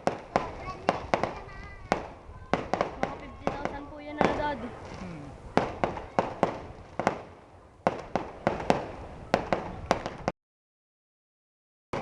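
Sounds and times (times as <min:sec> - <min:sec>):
fireworks bangs: 0:00.0 - 0:10.3.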